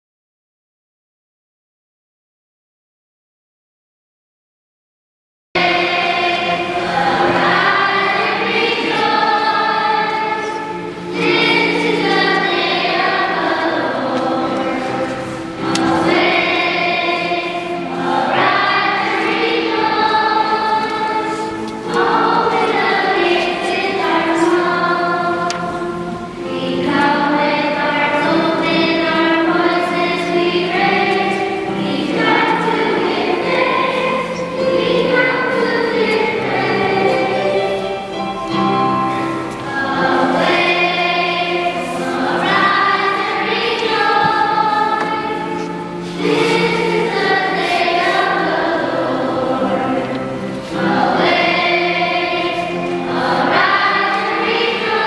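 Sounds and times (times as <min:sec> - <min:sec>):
choir singing a hymn: 0:05.6 - 0:55.0.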